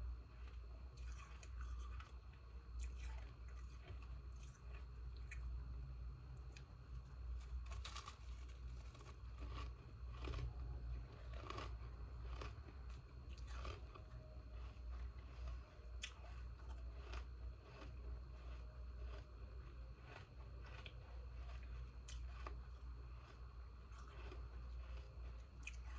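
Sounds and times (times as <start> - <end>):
low hum: 0.0 - 25.9
crunching and chewing ice: 0.2 - 25.9.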